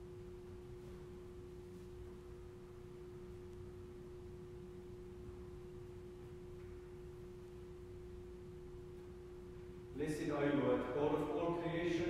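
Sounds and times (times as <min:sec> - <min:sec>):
faint steady hum: 0:00.0 - 0:12.0
low room rumble: 0:00.0 - 0:12.0.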